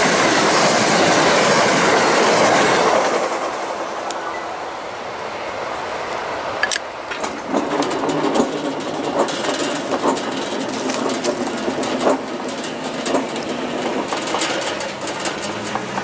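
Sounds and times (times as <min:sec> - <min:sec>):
train clacks and rattles: 0:00.0 - 0:16.0
train wheels rumbling on rails: 0:00.0 - 0:16.0.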